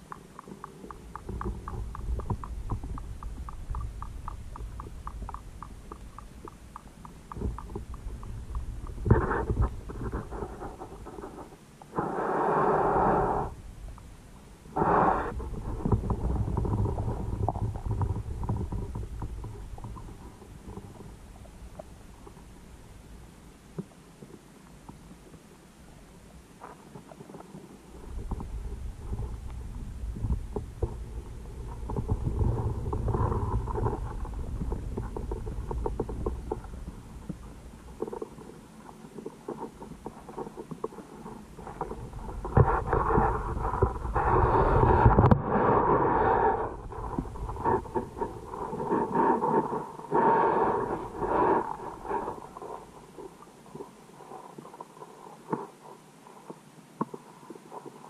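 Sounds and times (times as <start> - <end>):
muffled underwater rumbling: 0.0 - 56.3.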